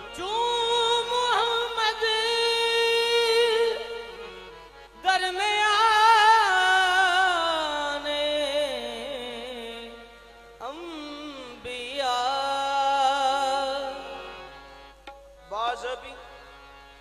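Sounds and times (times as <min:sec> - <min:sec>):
person singing: 0:00.0 - 0:14.5
harmonium: 0:00.0 - 0:17.0.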